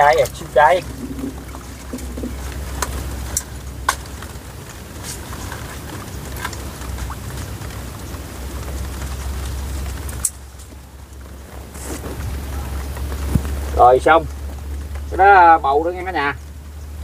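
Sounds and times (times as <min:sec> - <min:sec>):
leaves rustling: 0:00.0 - 0:17.0
low rumble: 0:00.0 - 0:17.0.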